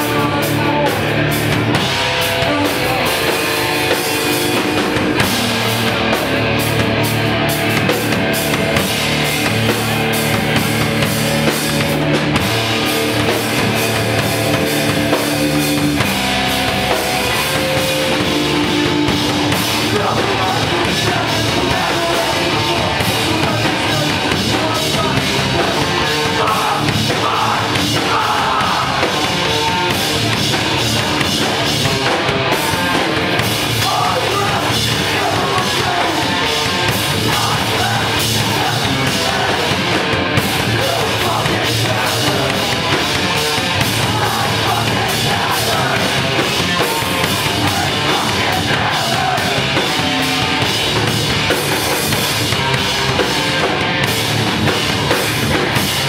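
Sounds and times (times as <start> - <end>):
drum kit: 0.0 - 56.0
electric guitar: 0.0 - 56.0
live rock band playing: 0.0 - 56.0
vocals: 0.0 - 56.0.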